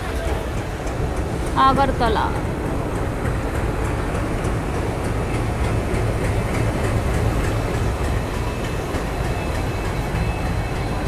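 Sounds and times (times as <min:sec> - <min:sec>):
train engine rumble: 0:00.0 - 0:11.0
wheels on rails: 0:00.0 - 0:11.0.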